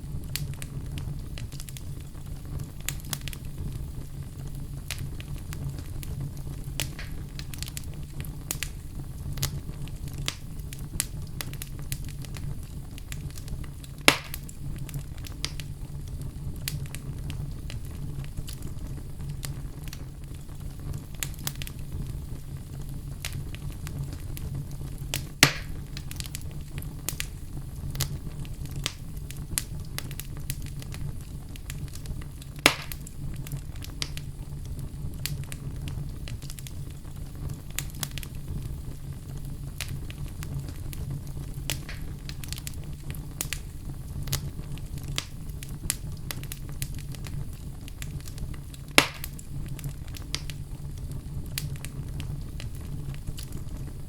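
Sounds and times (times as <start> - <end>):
wood fire crackling: 0.0 - 54.0
sharp pops from fire: 0.1 - 54.0.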